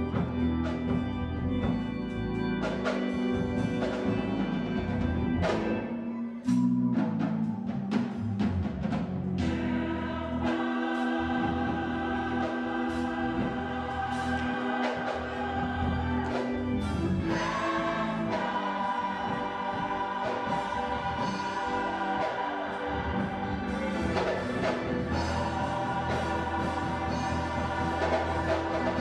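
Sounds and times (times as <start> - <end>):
gospel choir singing: 0.0 - 29.0.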